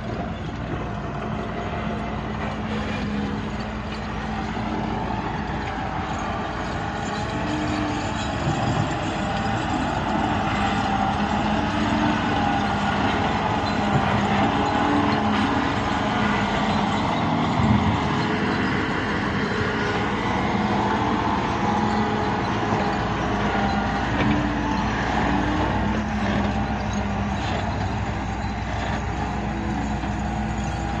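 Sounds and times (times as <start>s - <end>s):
diesel machinery running: 0.0s - 31.0s.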